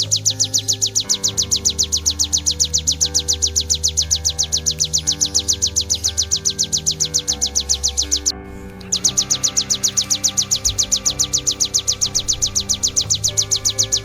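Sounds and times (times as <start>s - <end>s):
bird song of rapid high sharp notes: 0.0s - 14.0s
sustained background music: 0.0s - 14.0s.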